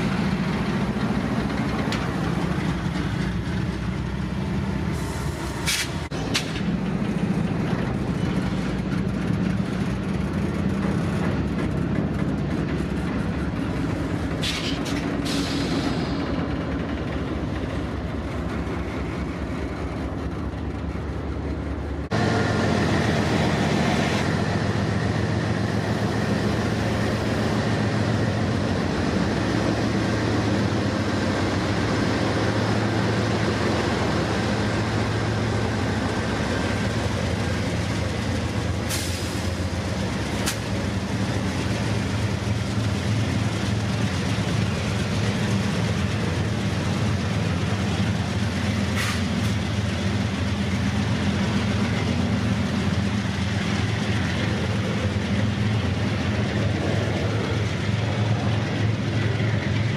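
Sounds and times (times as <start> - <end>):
diesel locomotives droning: 0.0 - 59.9
rail cars rumbling on rails: 0.0 - 59.9.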